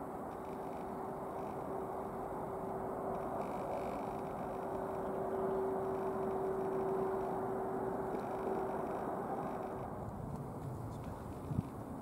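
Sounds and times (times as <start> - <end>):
jet engine whine: 0.0 - 12.0.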